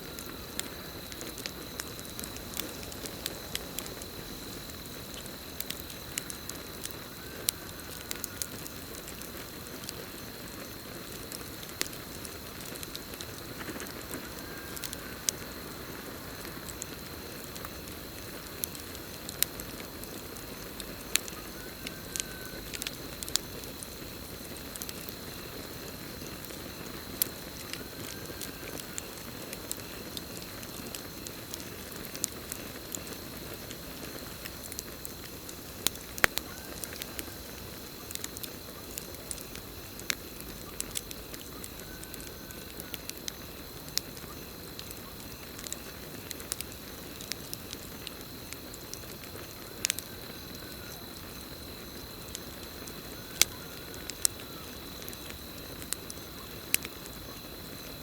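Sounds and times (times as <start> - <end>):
campfire crackling and popping: 0.0 - 58.0
high insect trill: 0.0 - 58.0.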